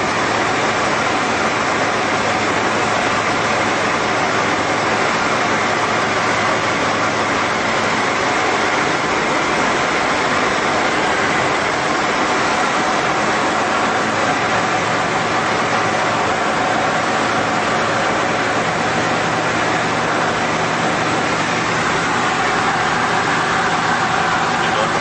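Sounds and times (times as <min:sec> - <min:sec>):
light aircraft engine and propeller drone: 0:00.0 - 0:25.0.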